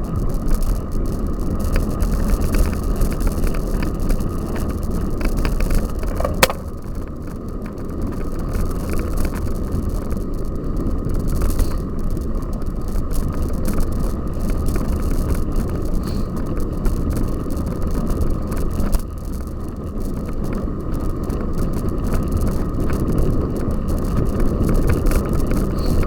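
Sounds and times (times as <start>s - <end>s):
bicycle riding over rough ground: 0.0s - 26.0s
bike rattles and knocks: 0.0s - 26.0s.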